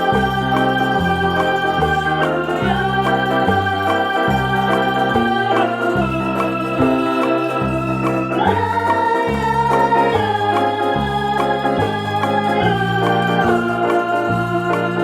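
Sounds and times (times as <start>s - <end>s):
bass line: 0.0s - 15.0s
organ-like keyboard chords: 0.0s - 15.0s.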